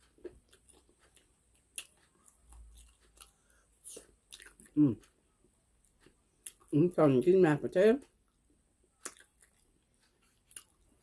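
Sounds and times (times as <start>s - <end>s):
person chewing food: 0.0s - 6.8s, 8.0s - 11.0s.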